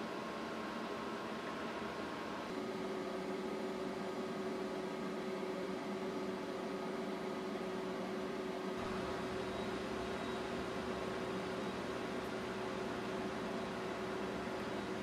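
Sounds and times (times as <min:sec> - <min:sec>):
constant humming tone: 0:00.0 - 0:15.0.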